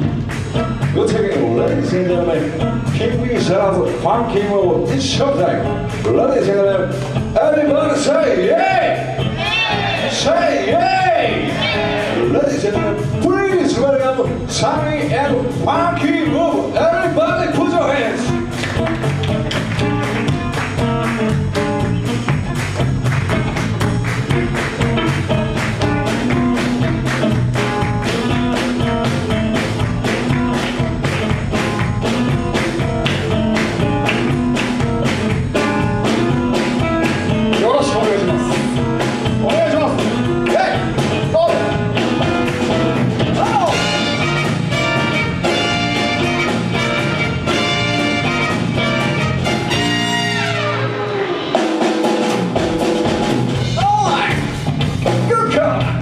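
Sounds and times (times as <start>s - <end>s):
driving drum beat: 0.0s - 50.8s, 51.4s - 56.0s
live band playing: 0.0s - 56.0s.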